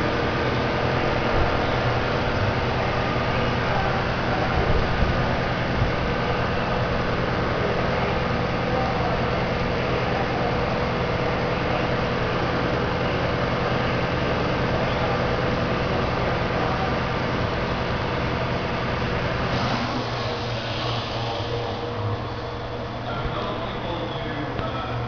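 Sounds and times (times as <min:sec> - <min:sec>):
machinery drone: 0:00.0 - 0:25.0.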